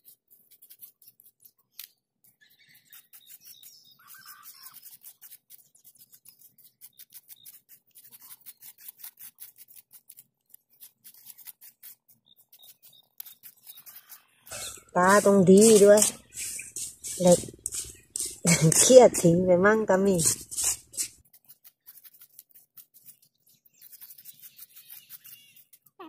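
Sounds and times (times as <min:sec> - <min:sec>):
spoons scraping through sand: 0:00.0 - 0:26.0.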